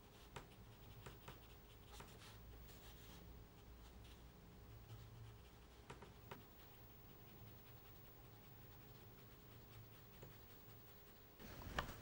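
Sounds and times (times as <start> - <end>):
paintbrush strokes on paper: 0.0 - 12.0.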